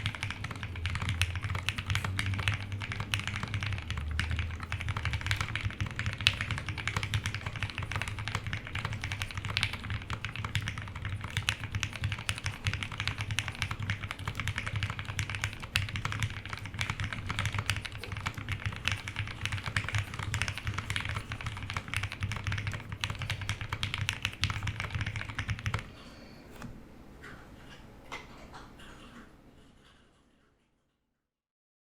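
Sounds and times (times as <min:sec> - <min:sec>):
mechanical keyboard typing: 0:00.0 - 0:26.7.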